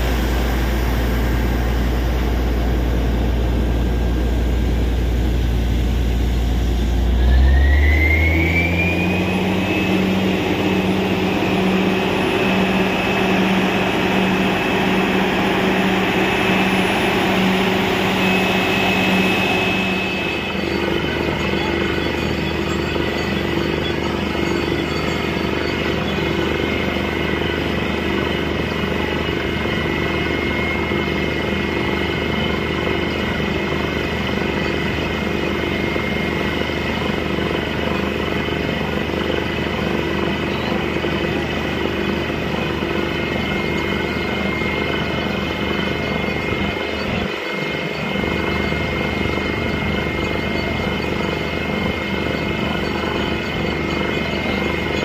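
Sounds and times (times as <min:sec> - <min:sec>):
drilling rig engine drone: 0:00.0 - 0:55.0.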